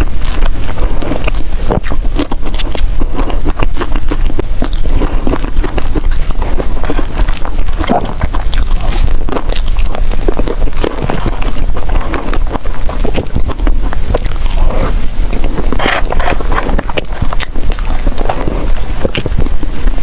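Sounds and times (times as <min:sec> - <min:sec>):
biting and chewing: 0:00.0 - 0:20.0.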